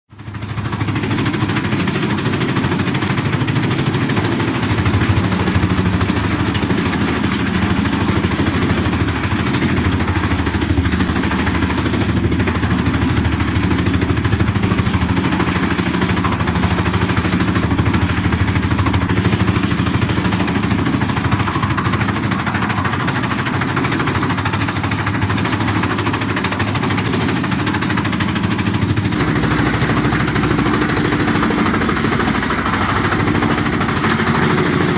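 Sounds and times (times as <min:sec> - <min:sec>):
wood chipper humming: 0:00.1 - 0:34.9.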